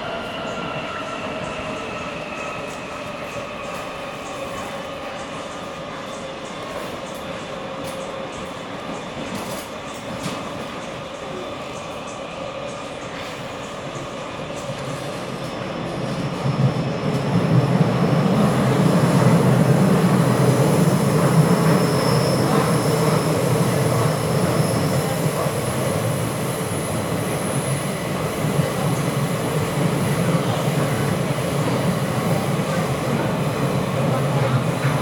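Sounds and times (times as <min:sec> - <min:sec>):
train wheels rumbling in tunnel: 0:00.0 - 0:35.0.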